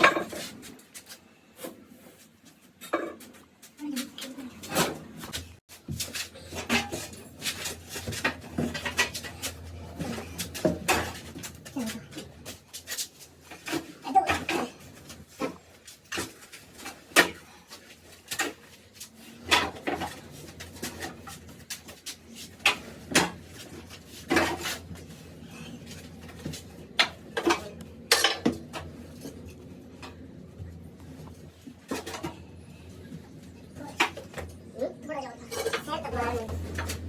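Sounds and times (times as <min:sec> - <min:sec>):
hand tools clinking and scraping: 0:00.0 - 0:30.2, 0:35.4 - 0:37.0.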